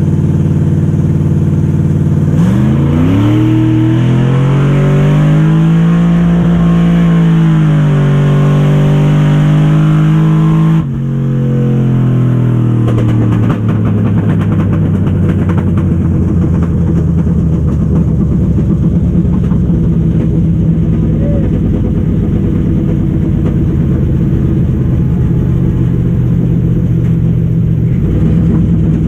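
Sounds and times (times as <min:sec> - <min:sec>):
low rough engine sound: 0:00.0 - 0:29.0
truck engine at full throttle: 0:00.0 - 0:29.0.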